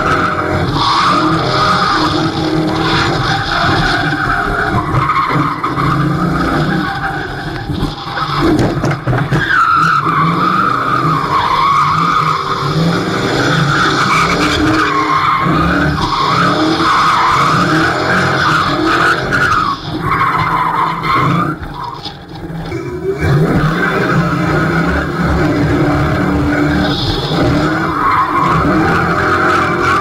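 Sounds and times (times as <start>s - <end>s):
car engine revving: 0.0s - 30.0s
tyres squealing: 0.0s - 30.0s.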